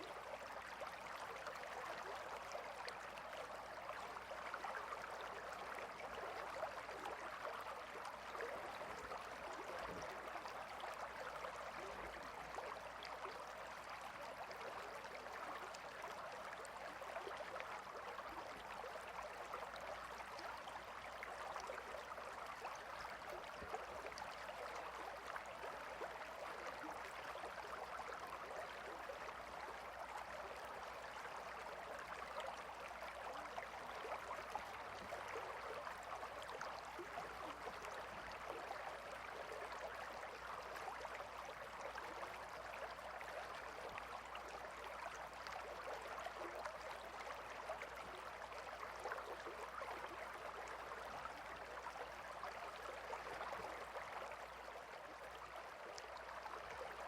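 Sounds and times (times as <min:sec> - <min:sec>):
gentle river flowing: 0:00.0 - 0:57.0.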